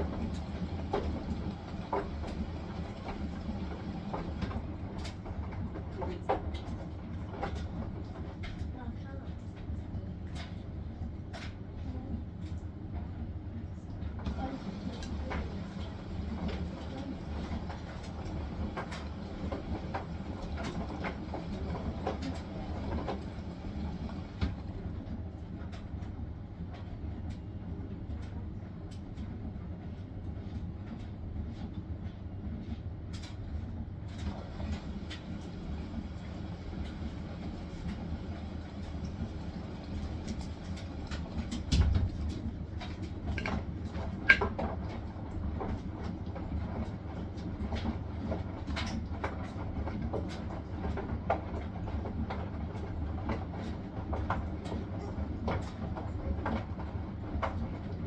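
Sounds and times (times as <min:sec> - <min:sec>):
washing machine drum rumbling: 0:00.0 - 0:09.1, 0:14.2 - 0:27.4, 0:33.2 - 0:58.0.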